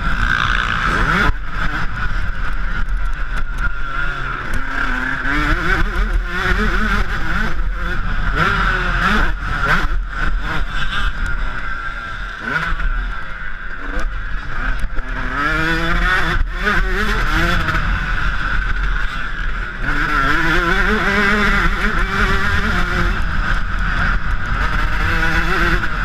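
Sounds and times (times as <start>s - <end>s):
motocross engine revving: 0.0s - 26.0s.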